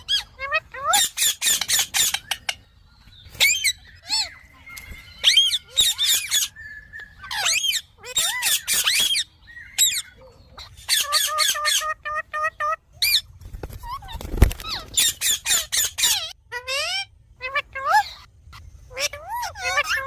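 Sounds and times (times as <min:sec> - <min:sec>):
parrots squawking: 0:00.0 - 0:20.0.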